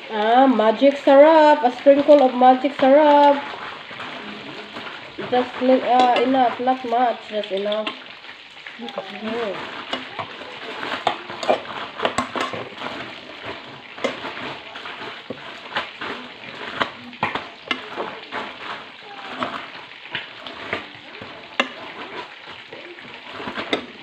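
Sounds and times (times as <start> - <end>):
wet squelching of mixing meat: 0.0 - 24.0.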